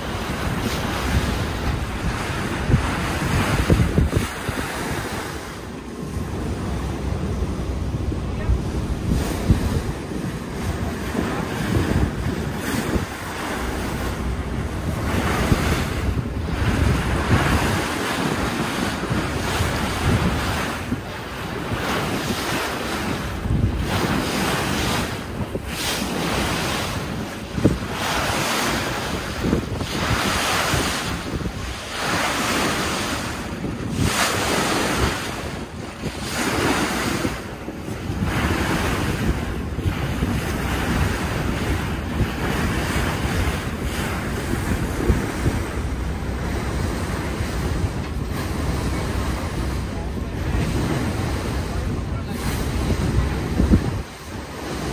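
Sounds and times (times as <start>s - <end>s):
water rushing along hull: 0.0s - 54.9s
wind buffeting microphone: 0.0s - 54.9s.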